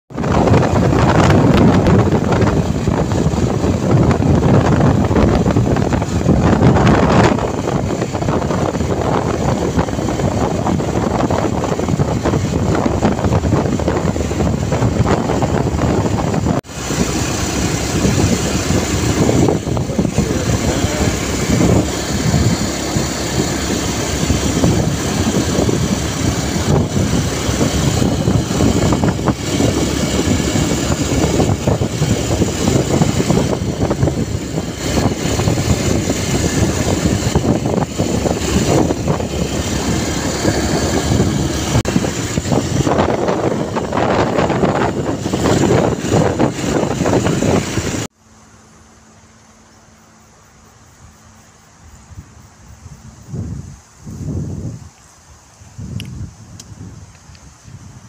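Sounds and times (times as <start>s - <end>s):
dirt bike engine running: 0.1s - 48.1s.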